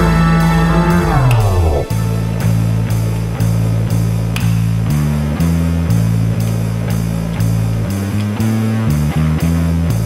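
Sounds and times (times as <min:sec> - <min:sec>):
rock music with guitar and bass: 0:00.0 - 0:10.0.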